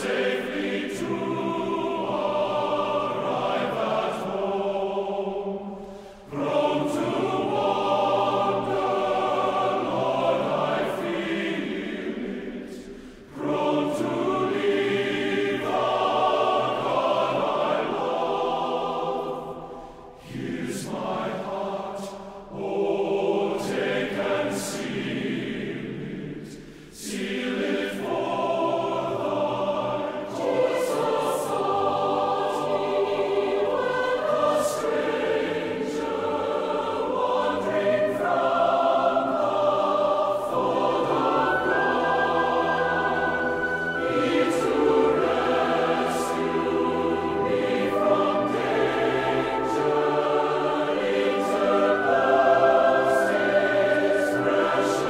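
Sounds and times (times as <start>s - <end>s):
choir singing slow phrases: 0.0s - 55.0s.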